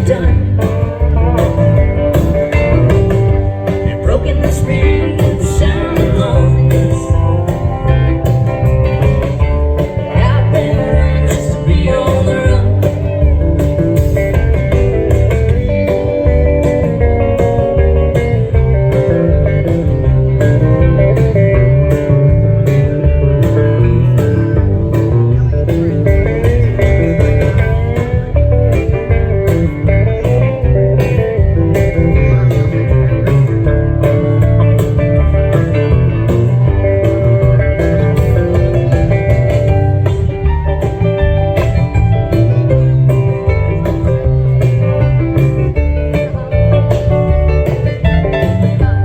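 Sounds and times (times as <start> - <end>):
live band playing country music: 0.0 - 49.0.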